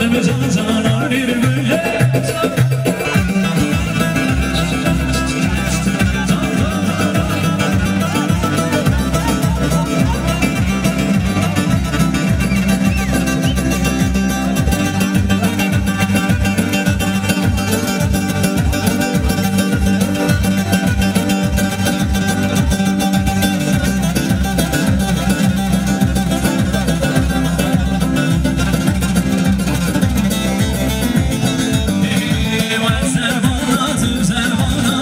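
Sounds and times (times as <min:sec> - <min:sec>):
plucked-string melody: 0:00.0 - 0:35.0
steady dance beat: 0:00.4 - 0:35.0.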